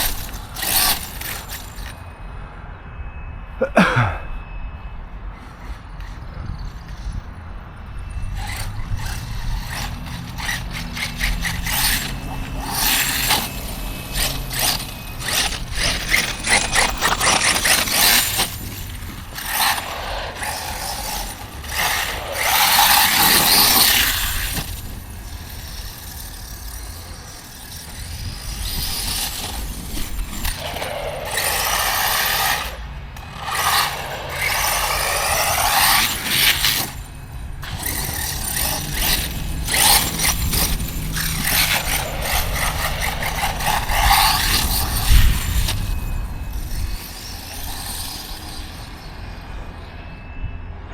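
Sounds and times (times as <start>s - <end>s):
electric motor whining: 0.0s - 2.0s, 8.1s - 50.2s
tyres scraping loose ground: 0.0s - 2.1s, 5.4s - 49.7s.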